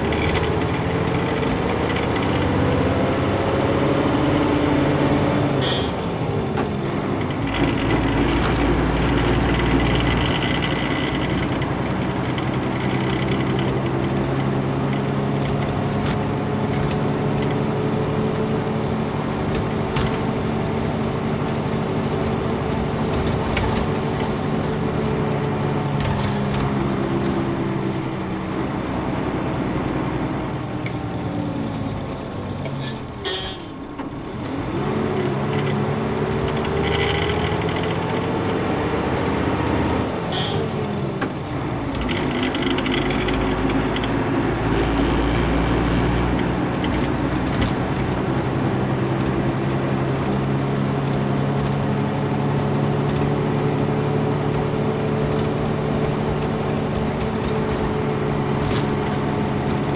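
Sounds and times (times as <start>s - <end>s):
bus diesel engine driving: 0.0s - 59.9s.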